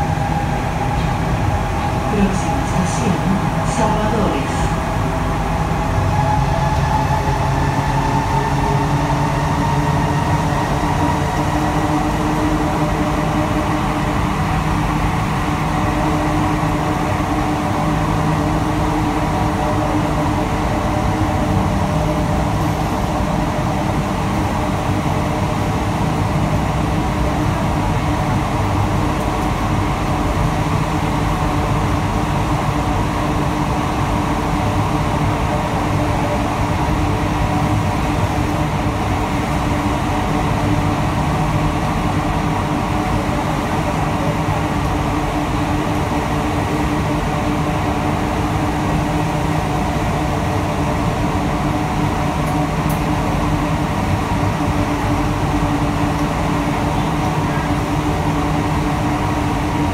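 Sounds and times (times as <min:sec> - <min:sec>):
metro car rolling din: 0:00.0 - 0:59.9.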